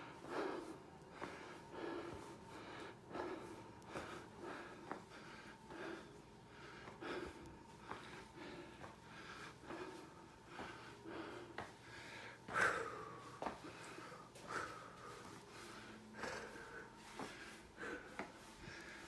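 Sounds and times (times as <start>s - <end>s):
heavy breathing: 0.0s - 19.0s.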